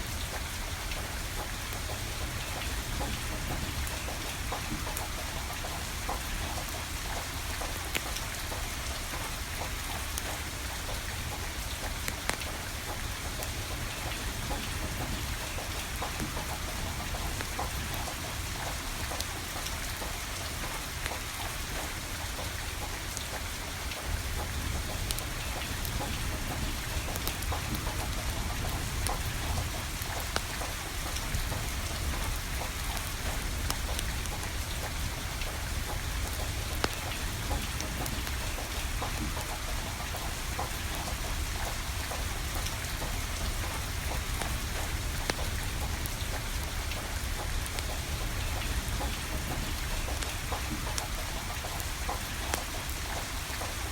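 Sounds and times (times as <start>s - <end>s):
steady rain falling: 0.0s - 53.9s
wood fire crackling: 0.1s - 53.9s.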